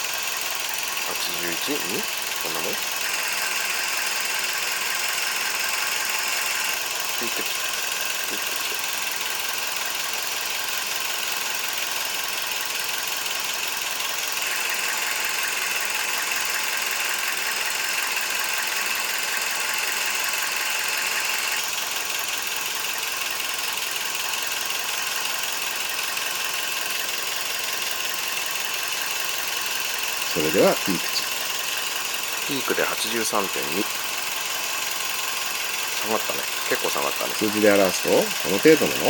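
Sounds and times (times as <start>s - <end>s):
turbo car engine running: 0.0s - 39.0s.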